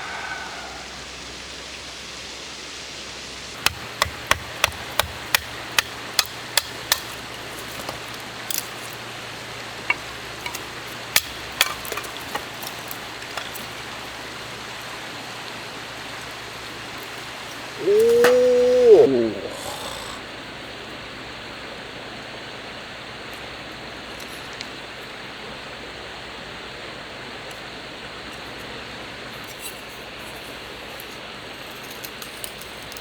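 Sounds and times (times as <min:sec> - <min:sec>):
steady rushing hiss: 0:00.0 - 0:32.2.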